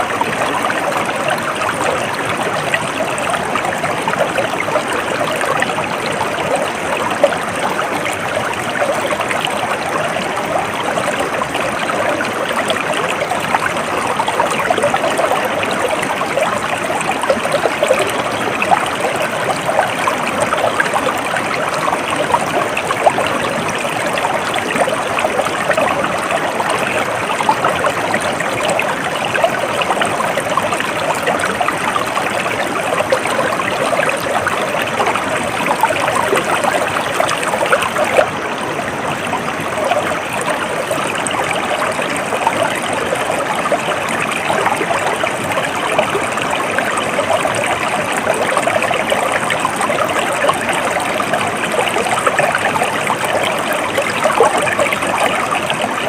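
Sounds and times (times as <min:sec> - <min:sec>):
stream bubbling over stones: 0:00.0 - 0:56.0.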